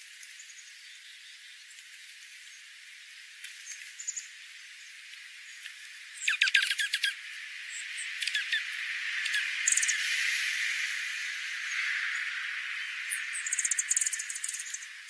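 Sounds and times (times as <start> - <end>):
songbirds twittering: 0.0 - 15.0
steady high hiss: 0.0 - 15.0.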